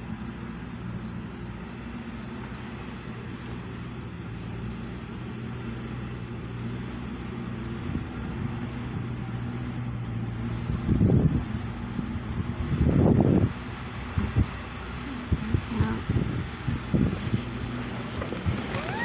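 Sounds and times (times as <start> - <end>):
low mechanical hum: 0.0 - 19.0
outdoor background noise: 0.0 - 19.0.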